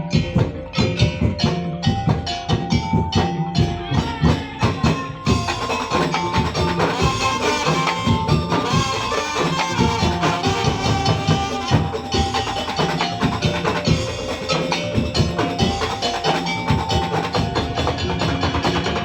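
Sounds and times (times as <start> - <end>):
bamboo slit drums and drums: 0.0 - 19.0
high held melody line: 0.0 - 19.0.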